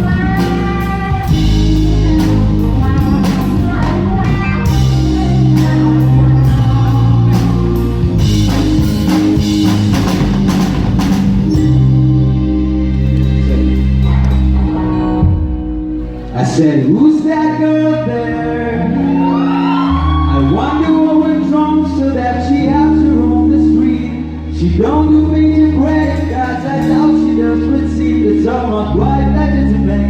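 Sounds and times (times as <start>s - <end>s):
rock band playing: 0.0s - 30.0s.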